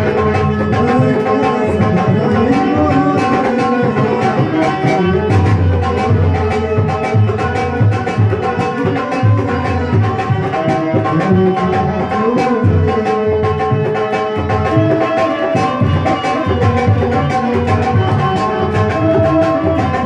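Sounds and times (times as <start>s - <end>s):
dholak beating dance rhythm: 0.0s - 20.0s.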